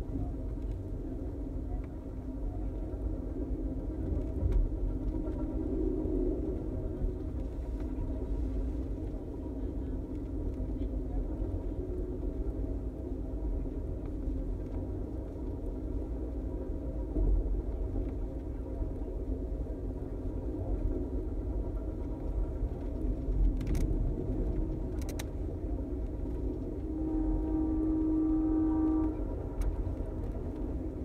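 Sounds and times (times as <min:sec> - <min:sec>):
train wheels rumbling on rails: 0:01.8 - 0:31.0.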